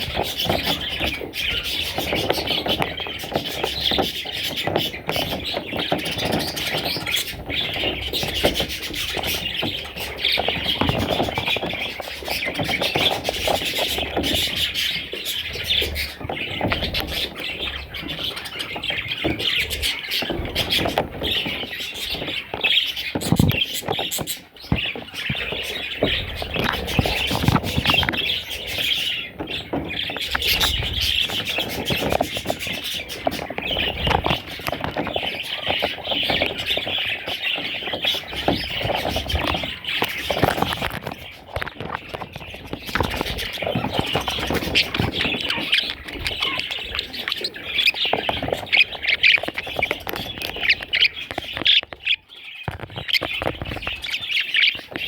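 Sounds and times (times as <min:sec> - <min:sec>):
baby parrots chirping and squawking: 0:00.0 - 0:55.0.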